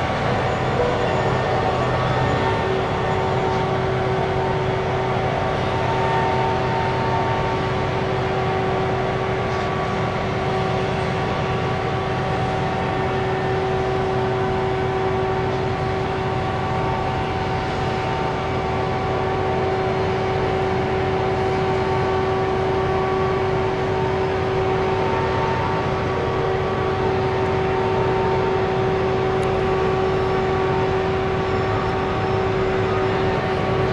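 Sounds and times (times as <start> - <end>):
heavy machine engine running: 0.0 - 33.9
steady whine: 0.0 - 33.9.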